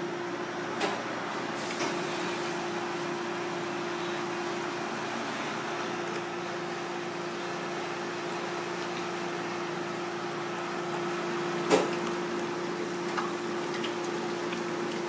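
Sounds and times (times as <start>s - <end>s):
oil sizzling and bubbling: 0.2s - 15.0s.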